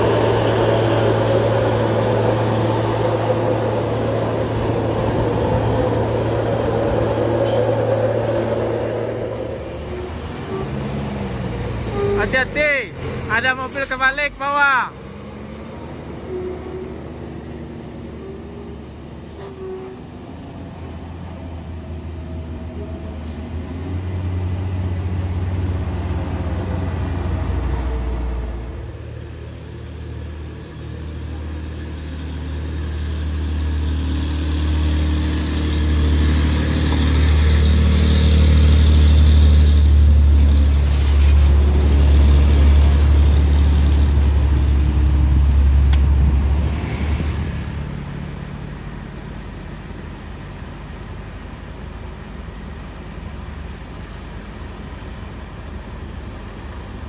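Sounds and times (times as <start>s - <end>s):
truck engines droning uphill: 0.0s - 57.0s.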